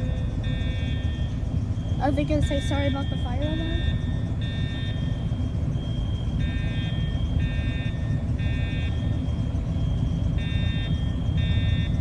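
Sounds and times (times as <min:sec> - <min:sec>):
fire alarm horn blasts: 0:00.0 - 0:12.0
steady high tone: 0:00.0 - 0:12.0.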